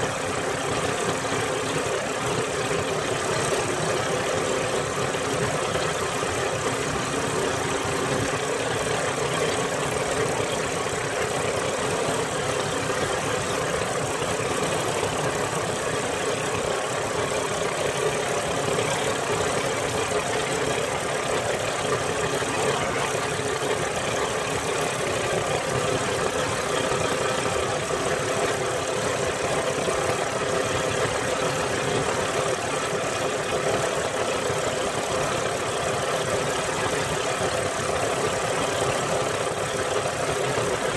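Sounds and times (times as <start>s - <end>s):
boat engine humming: 0.0s - 40.9s.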